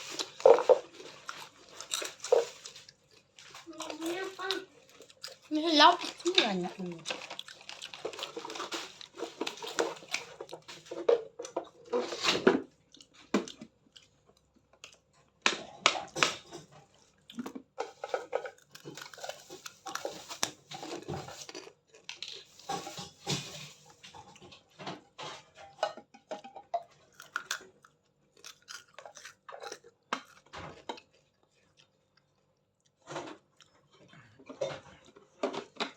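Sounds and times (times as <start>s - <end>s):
crunching and crackling handling: 0.0s - 12.2s, 12.8s - 25.8s, 27.0s - 35.9s.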